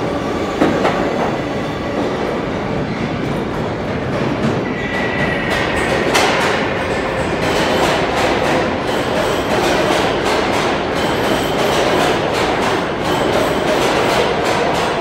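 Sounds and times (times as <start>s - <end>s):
subway wheels clattering: 0.0s - 15.0s.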